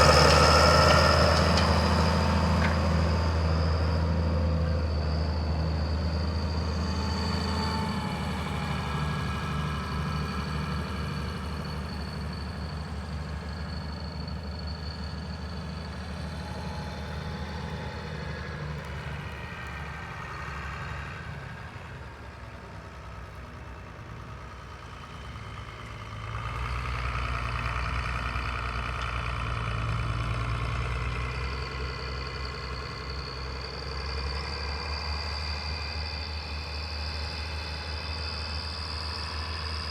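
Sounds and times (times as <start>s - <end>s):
tractor engines under load: 0.0s - 39.9s.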